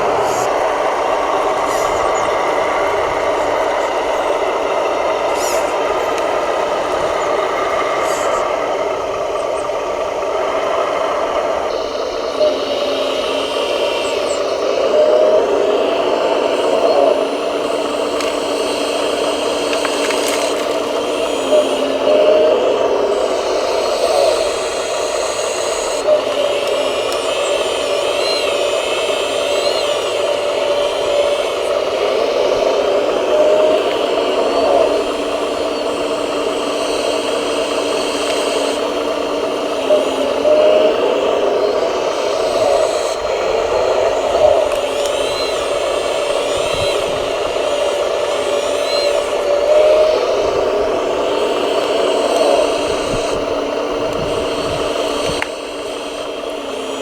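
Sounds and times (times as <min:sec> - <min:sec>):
electric motors whirring: 0:00.0 - 0:57.0.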